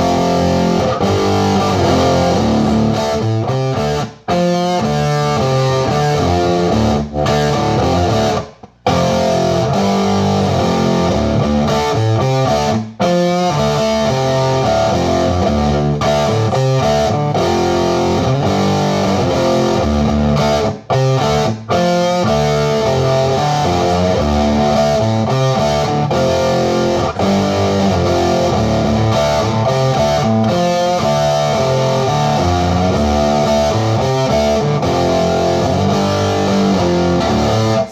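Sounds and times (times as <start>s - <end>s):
electric guitar riffs: 0.0s - 37.9s.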